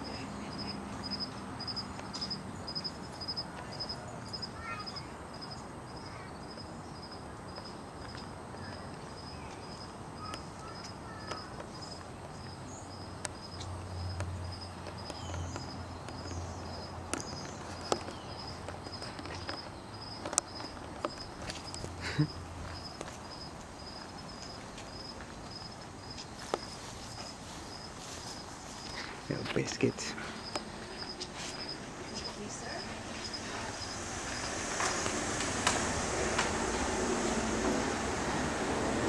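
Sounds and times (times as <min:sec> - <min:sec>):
insect chirping: 0:00.0 - 0:39.0.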